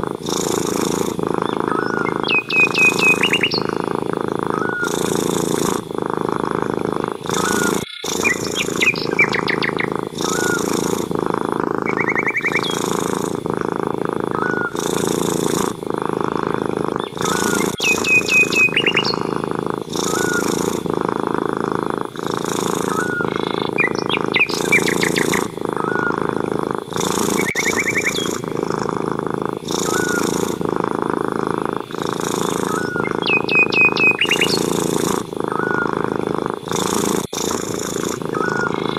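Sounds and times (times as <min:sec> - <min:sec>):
cat purring: 0:00.0 - 0:38.9
small birds chirping: 0:00.0 - 0:38.9.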